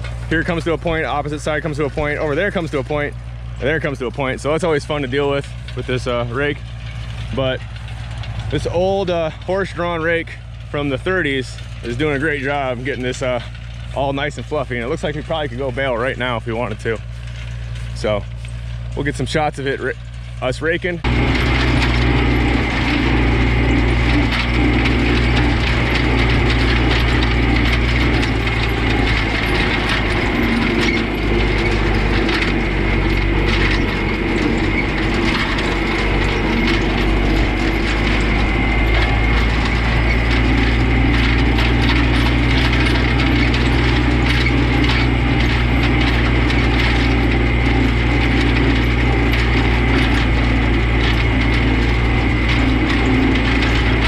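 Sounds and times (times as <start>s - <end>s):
hay rake gears and tines clattering: 0.0s - 54.0s
tractor engine running: 0.0s - 54.0s.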